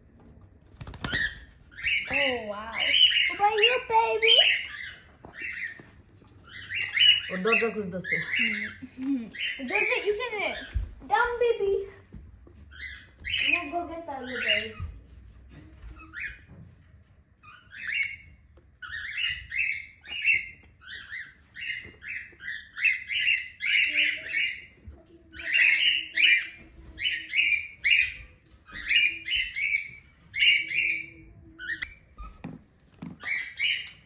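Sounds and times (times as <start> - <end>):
cockatiel chirping calls: 0.8 - 10.9, 12.7 - 15.1, 17.4 - 24.7, 25.3 - 32.4, 33.2 - 34.0.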